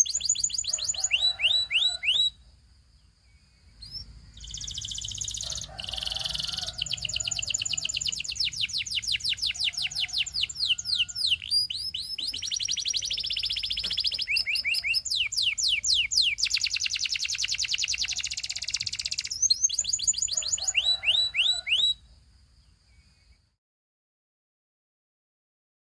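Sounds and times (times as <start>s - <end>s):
canary singing trills: 0.0s - 2.4s, 3.1s - 22.0s.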